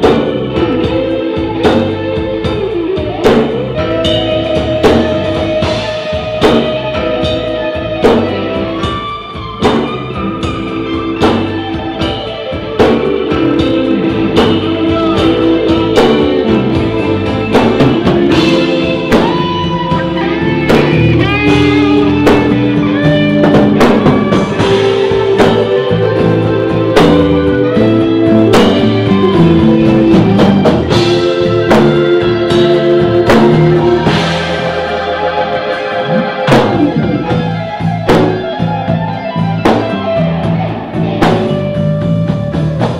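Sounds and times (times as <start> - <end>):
drum kit beat: 0.0 - 42.9
electric guitar bending notes: 0.0 - 42.9.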